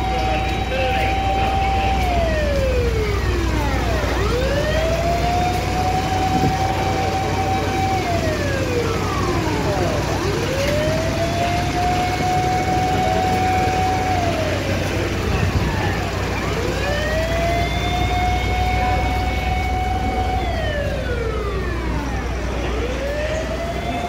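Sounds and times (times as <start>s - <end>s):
fire engine siren wailing: 0.0s - 24.0s
low engine hum: 0.0s - 24.0s.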